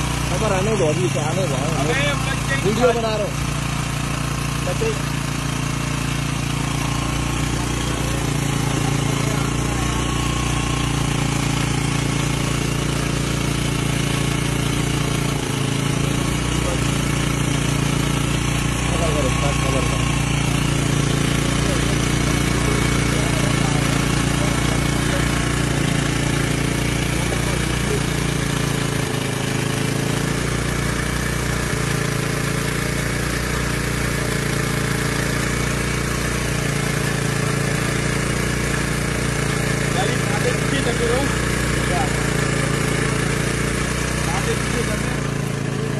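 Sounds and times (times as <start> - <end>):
boat engine idling: 0.0 - 45.9.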